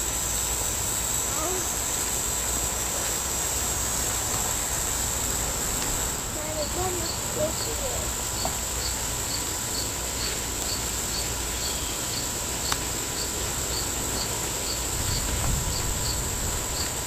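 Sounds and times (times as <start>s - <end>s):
insects droning and chirping: 0.0s - 17.0s.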